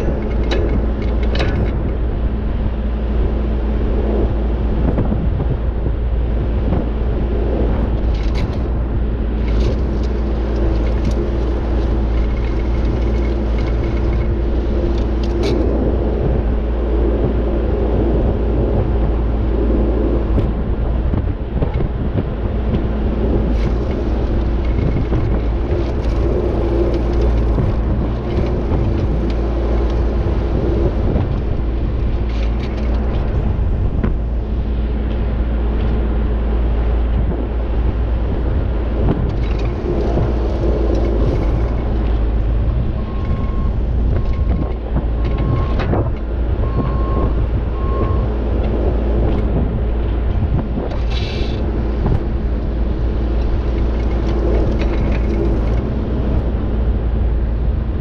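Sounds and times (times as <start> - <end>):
rotating drum churning dirt: 0.0 - 58.0
tractor engine running: 0.0 - 58.0.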